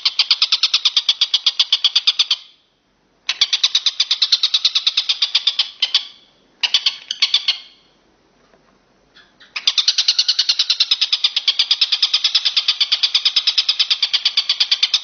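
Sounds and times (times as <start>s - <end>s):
fast rhythmic chattering call: 0.0s - 2.4s, 3.3s - 7.6s, 9.4s - 15.0s.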